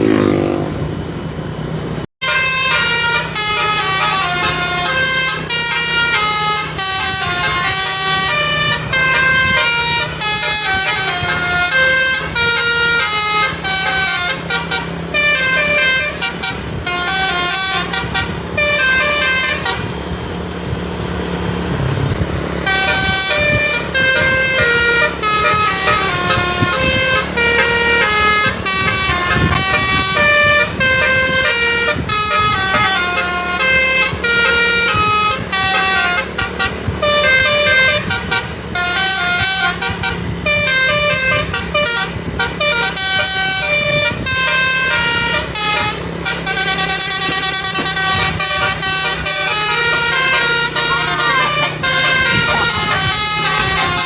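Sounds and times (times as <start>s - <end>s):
musical air horn melody: 2.2s - 20.8s, 22.3s - 54.0s.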